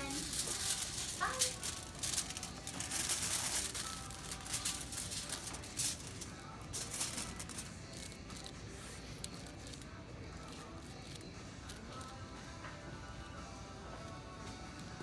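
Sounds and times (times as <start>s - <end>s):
foil crinkling and rustling: 0.0s - 12.2s.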